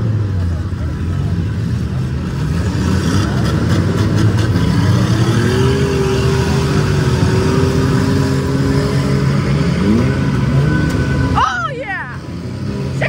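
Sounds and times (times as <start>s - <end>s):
car engine revving: 0.0s - 11.5s
car engines droning: 0.0s - 13.0s.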